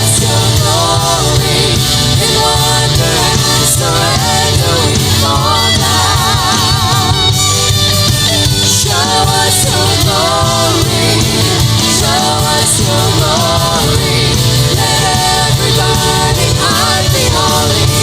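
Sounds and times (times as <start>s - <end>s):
band playing worship music: 0.0s - 18.0s
person singing with vibrato: 0.0s - 18.0s.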